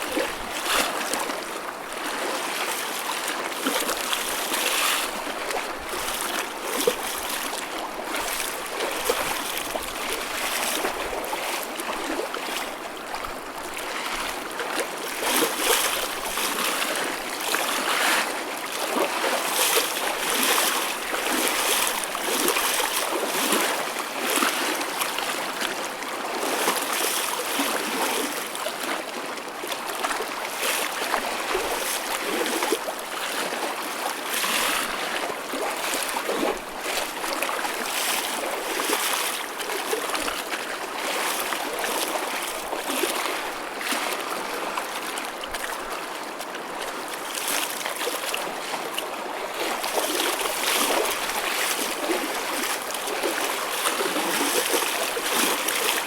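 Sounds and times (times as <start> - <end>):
ocean waves lapping and splashing: 0.0 - 56.0.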